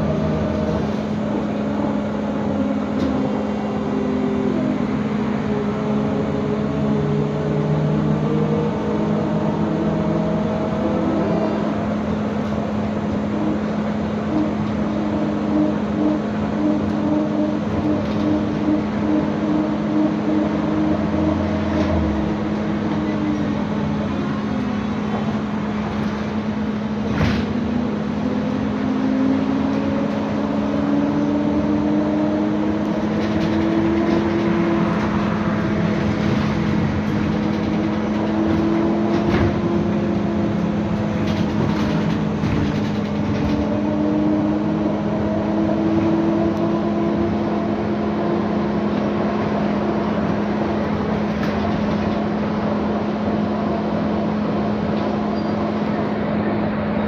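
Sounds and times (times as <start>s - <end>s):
electric traction drive whine: 0.0s - 57.0s
road noise: 0.0s - 57.0s.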